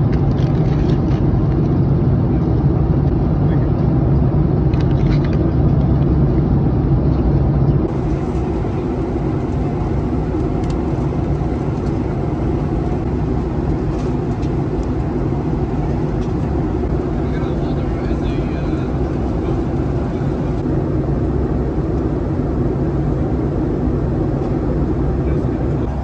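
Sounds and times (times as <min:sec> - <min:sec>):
airliner cabin engine noise: 0:00.0 - 0:26.0.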